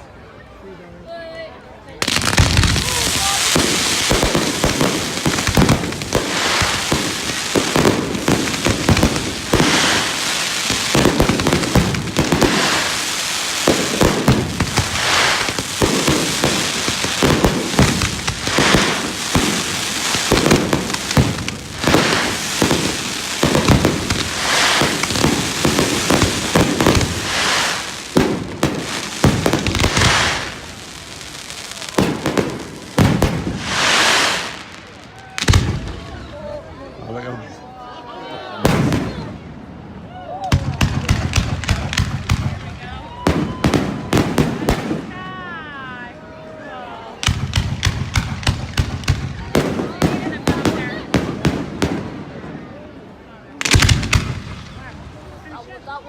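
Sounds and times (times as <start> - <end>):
fireworks bangs and crackles: 2.0 - 36.8, 38.6 - 46.2, 47.1 - 56.0.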